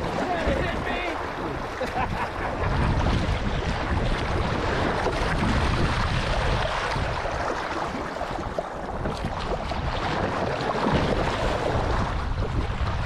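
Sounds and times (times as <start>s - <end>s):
water splashing along kayak hull: 0.0s - 13.0s
wind buffeting microphone: 0.0s - 13.0s.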